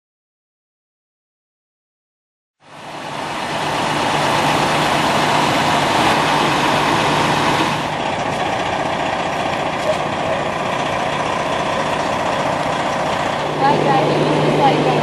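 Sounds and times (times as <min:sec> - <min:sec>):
large vehicle engine idling: 0:02.6 - 0:15.0.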